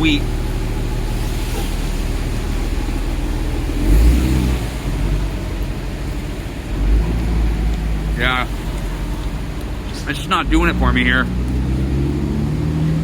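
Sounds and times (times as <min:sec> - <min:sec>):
motor vehicle low rumble: 0:00.0 - 0:13.0.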